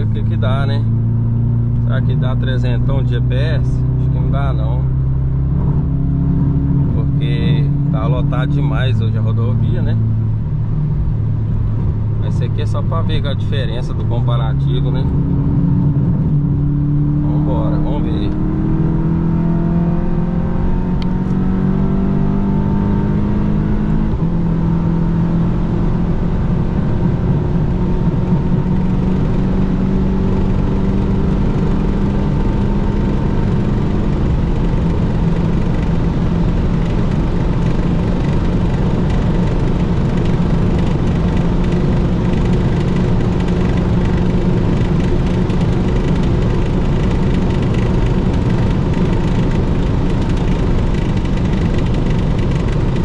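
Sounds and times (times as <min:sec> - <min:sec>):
car engine at full throttle: 0:00.0 - 0:53.0
wind and tyre roar: 0:00.0 - 0:53.0.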